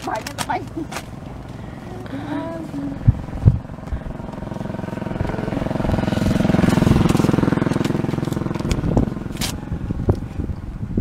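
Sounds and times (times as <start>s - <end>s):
small engine running: 0.0s - 10.6s.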